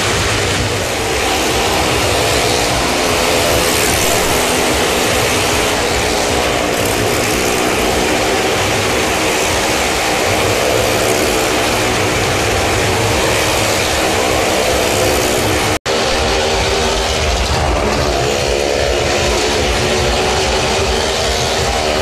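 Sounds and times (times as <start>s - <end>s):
machinery running: 0.0s - 22.0s.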